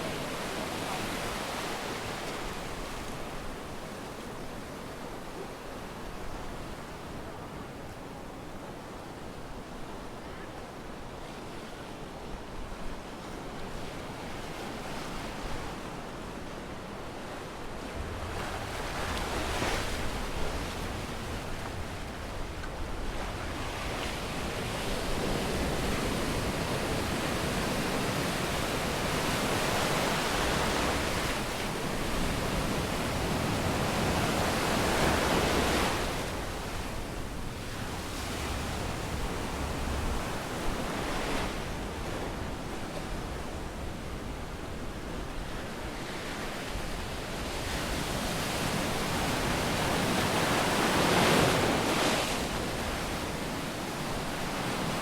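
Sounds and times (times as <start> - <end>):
surf washing up a beach: 0.0 - 55.0.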